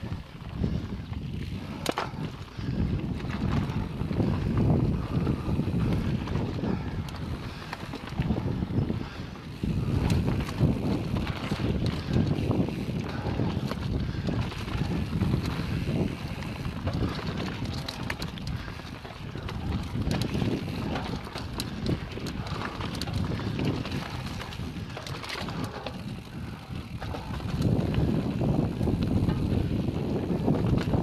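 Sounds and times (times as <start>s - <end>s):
bike rattling over bumps: 0.0s - 31.0s
bike tyres crunching over stones: 0.0s - 31.0s
wind rumbling on microphone: 0.0s - 31.0s.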